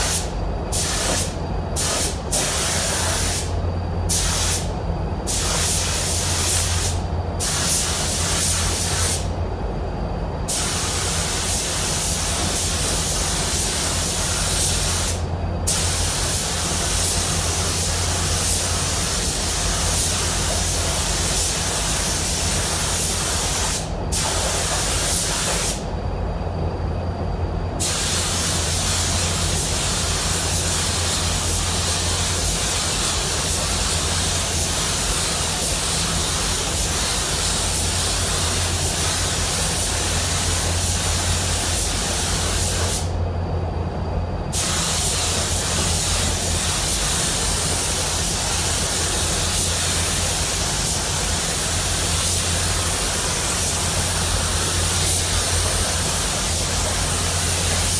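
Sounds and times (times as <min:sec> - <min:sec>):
paint spray gun hissing: 0:00.0 - 0:04.7, 0:05.3 - 0:09.3, 0:10.5 - 0:25.8, 0:27.8 - 0:43.2, 0:44.5 - 0:57.9
steady low hum: 0:00.0 - 0:57.9.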